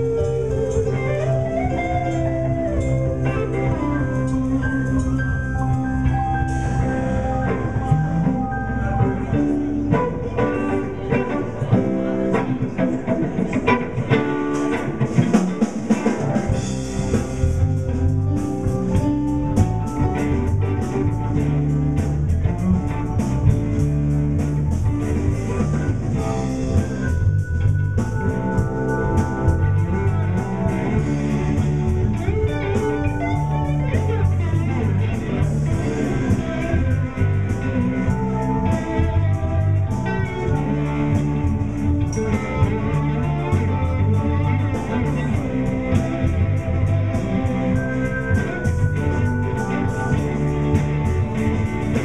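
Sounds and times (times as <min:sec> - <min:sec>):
blues band playing: 0:00.0 - 0:52.0.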